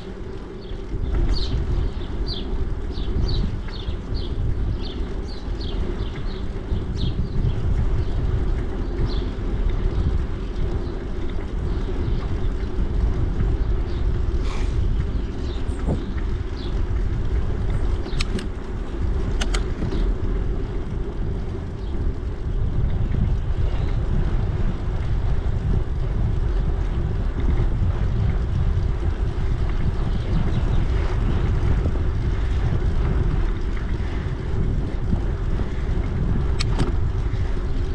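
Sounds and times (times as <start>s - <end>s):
bicycle rumbling along a trail: 0.0s - 37.9s
wind buffeting the microphone: 0.0s - 37.9s.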